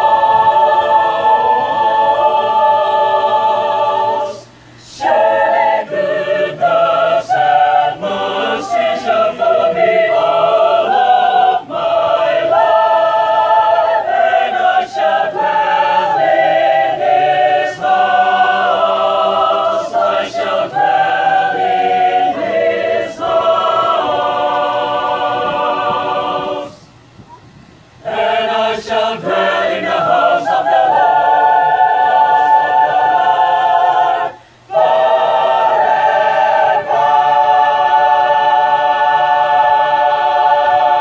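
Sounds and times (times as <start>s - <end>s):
mixed choir singing a cappella: 0.0s - 27.0s, 28.0s - 41.0s.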